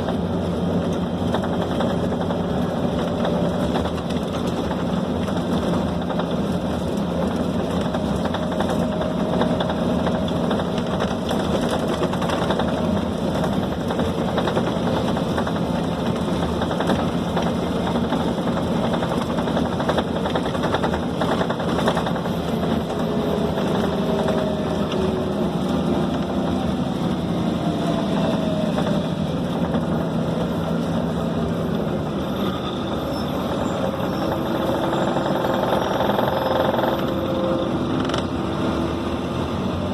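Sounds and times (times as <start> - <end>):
bus diesel engine drone: 0.0 - 39.9
rattling road noise: 0.0 - 39.9.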